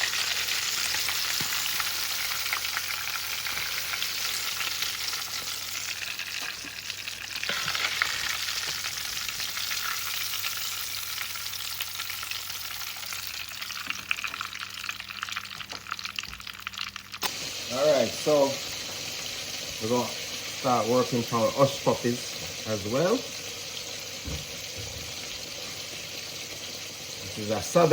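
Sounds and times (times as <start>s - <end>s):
fish deep-frying in oil: 0.0s - 27.9s.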